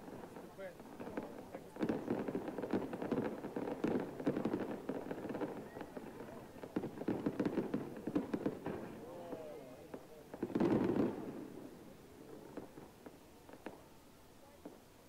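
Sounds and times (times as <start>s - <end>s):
fireworks crackling and bursting: 0.0s - 15.0s.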